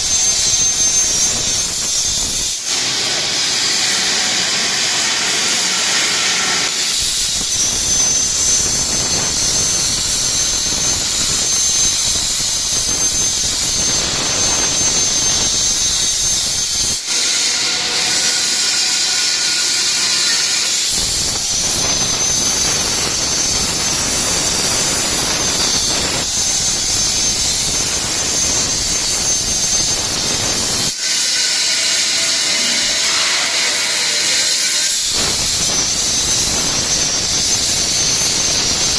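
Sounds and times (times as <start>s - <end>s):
plasma torch hissing: 0.0s - 3.1s, 6.7s - 17.7s, 20.2s - 38.9s.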